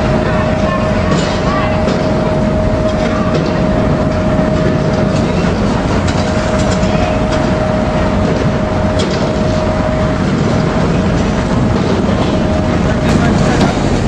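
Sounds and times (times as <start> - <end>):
constant machine whine: 0.0 - 14.0
heavy machinery rumbling: 0.0 - 14.0.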